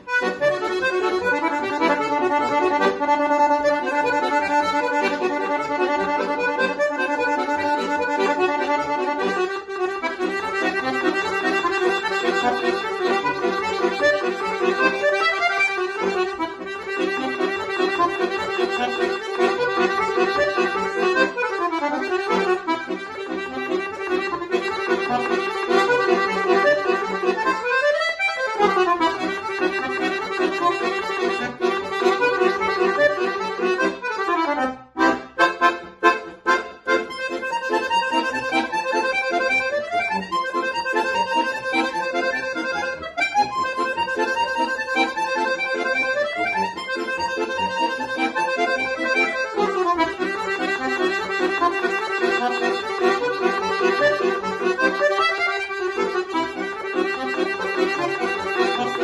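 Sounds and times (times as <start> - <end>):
solo accordion music: 0.0 - 59.0.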